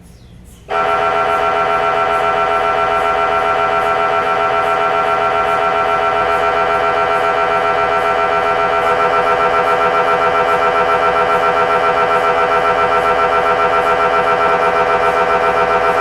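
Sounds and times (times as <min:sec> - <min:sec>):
mri scanner pulsing drone: 0:00.7 - 0:16.0.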